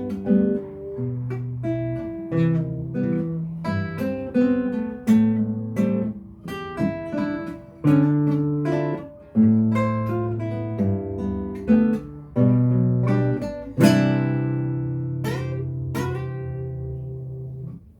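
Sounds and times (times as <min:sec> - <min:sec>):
acoustic guitar strumming: 0:00.0 - 0:17.9.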